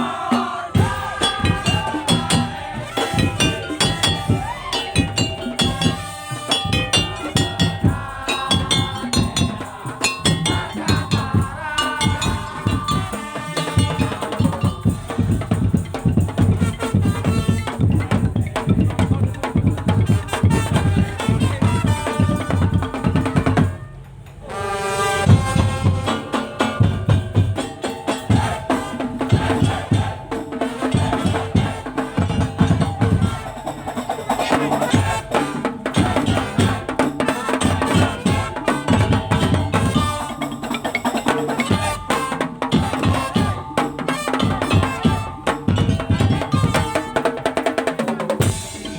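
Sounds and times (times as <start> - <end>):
wooden slit drums and drums: 0.0 - 48.9.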